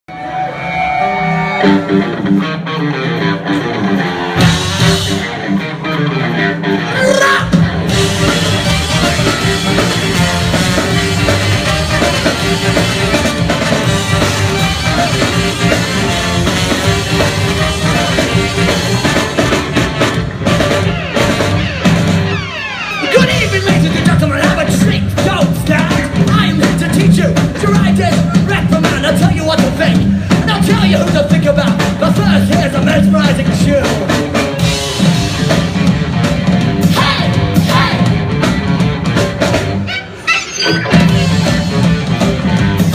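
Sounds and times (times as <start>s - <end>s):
guitar playing: 0.1s - 31.0s, 32.8s - 42.9s
rock band playing live: 0.1s - 42.9s.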